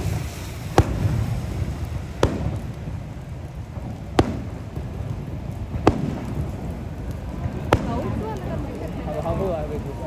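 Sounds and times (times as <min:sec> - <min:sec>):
firework bangs: 0:00.0 - 0:10.0.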